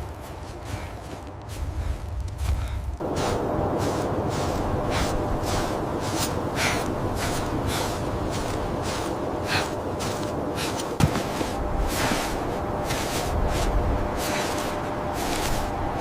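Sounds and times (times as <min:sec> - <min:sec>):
heavy rhythmic breathing: 0:00.0 - 0:16.0
low wind rumble: 0:00.0 - 0:16.0.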